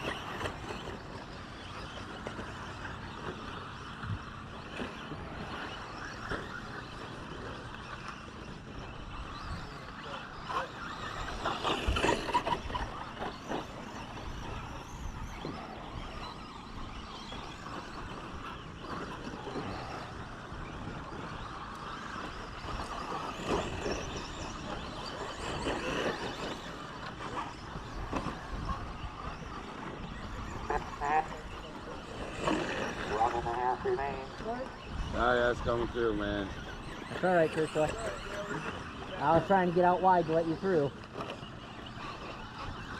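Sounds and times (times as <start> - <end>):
toy truck motors running: 0.0 - 42.9.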